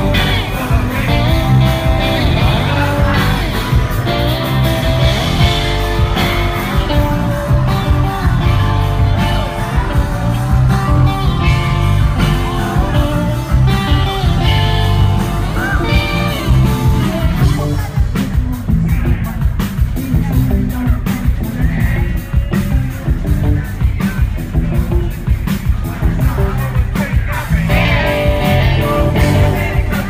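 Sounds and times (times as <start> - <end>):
drums: 0.0 - 30.0
electric guitars: 0.0 - 30.0
heavy bass: 0.0 - 30.0
man singing: 0.0 - 30.0.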